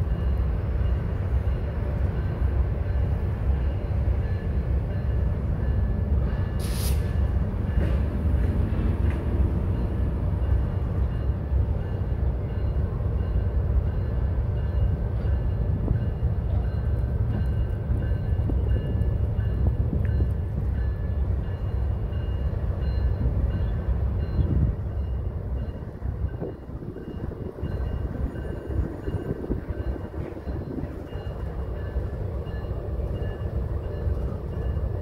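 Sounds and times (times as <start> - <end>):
diesel locomotives rumbling: 0.0 - 35.0.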